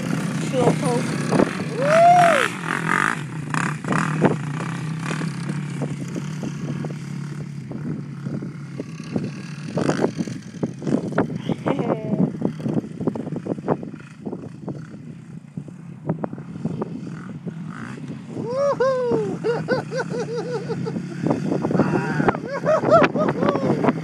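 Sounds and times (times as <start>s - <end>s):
atv engines running: 0.0s - 24.0s
wind on microphone: 0.0s - 24.0s.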